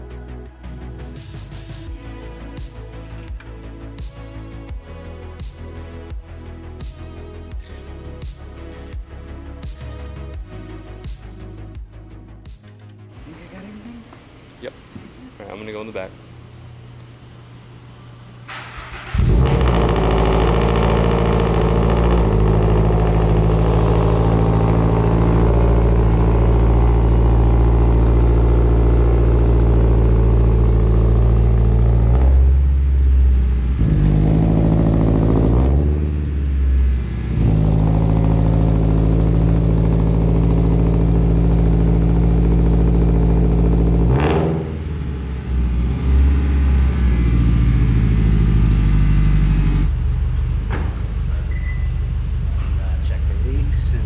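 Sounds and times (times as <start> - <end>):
car engine idling and revving: 0.0 - 12.3, 18.5 - 54.0.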